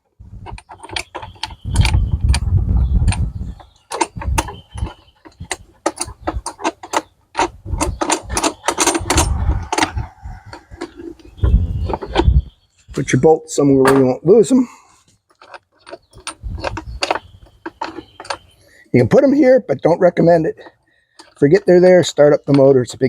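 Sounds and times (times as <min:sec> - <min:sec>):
handling knocks and rattles: 0:00.0 - 0:13.2, 0:13.8 - 0:14.5, 0:15.1 - 0:23.0.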